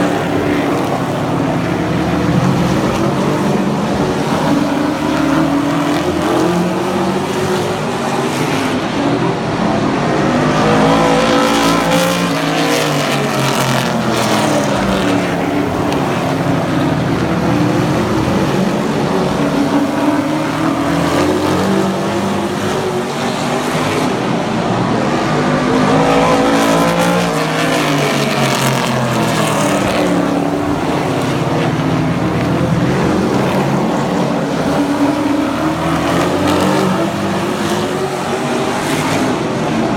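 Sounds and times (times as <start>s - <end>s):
race truck engines at full throttle: 0.0s - 39.9s.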